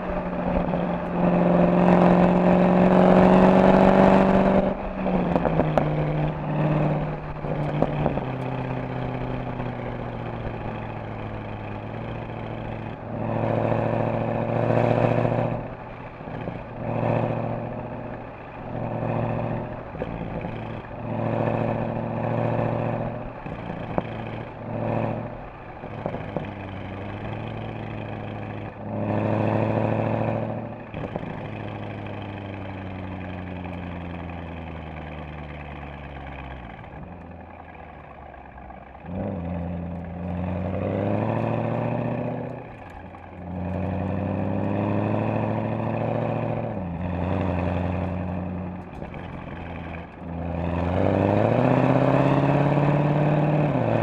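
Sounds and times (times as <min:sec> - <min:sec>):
car exhaust accelerating: 0:00.0 - 0:54.0.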